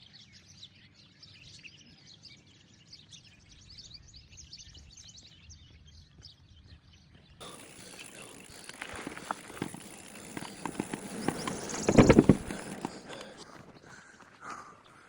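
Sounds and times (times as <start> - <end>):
small birds chirping rapidly: 0.1 - 15.0.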